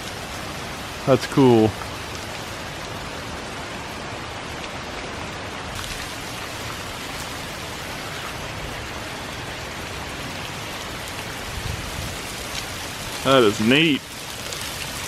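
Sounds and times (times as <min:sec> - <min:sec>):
waterfalls rushing: 0:00.0 - 0:15.0.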